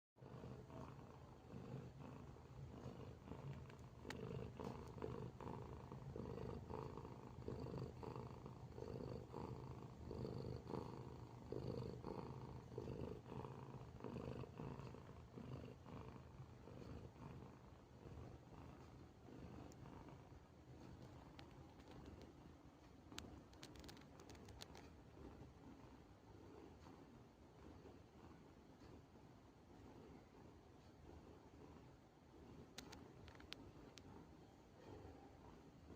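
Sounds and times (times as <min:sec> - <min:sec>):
cat snoring softly: 0:00.2 - 0:22.5, 0:23.1 - 0:35.9.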